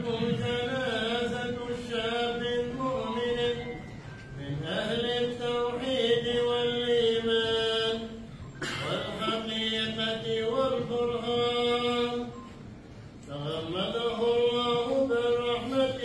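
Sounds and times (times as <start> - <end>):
man chanting: 0.0 - 3.7, 4.4 - 12.3, 13.3 - 16.0.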